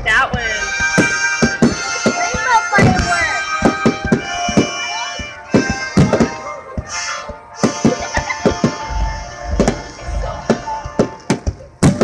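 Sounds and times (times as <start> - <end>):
firework shells bursting: 0.7 - 12.0.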